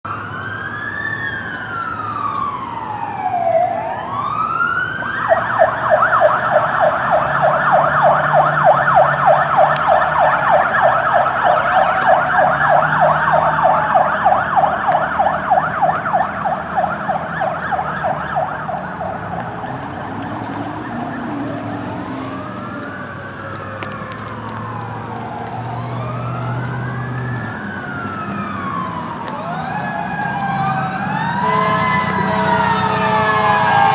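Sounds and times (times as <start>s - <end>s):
fire siren wailing and yelping: 0.1s - 33.9s.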